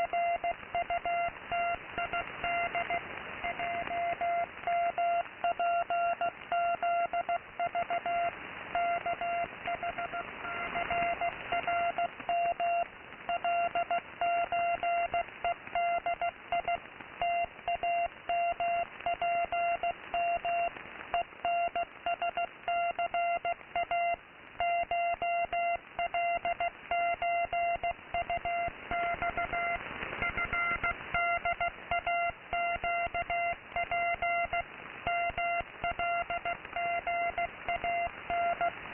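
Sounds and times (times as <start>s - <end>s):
morse code beeps: 0.0s - 38.8s
radio static hiss: 0.0s - 38.9s.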